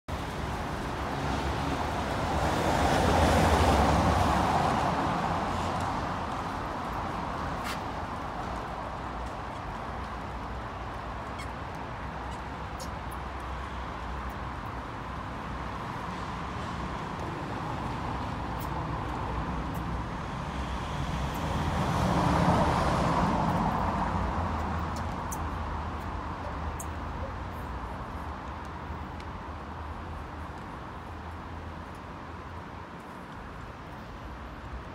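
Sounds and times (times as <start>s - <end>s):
street traffic: 0.1s - 34.9s.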